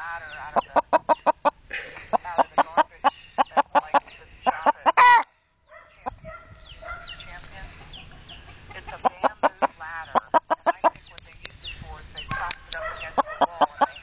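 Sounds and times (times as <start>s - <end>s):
hen squawking: 0.0s - 11.0s, 11.6s - 14.0s
hen clucking: 0.0s - 14.0s.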